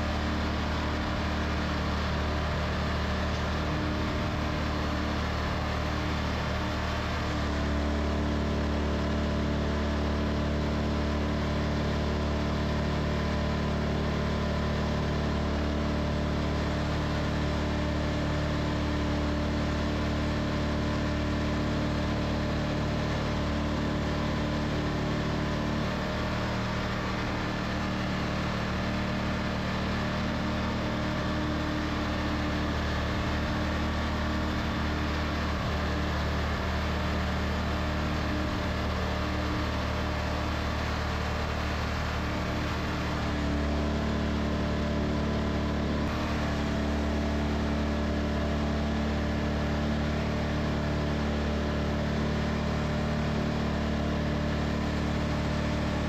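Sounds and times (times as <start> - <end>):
sawmill engine humming: 0.0 - 56.0.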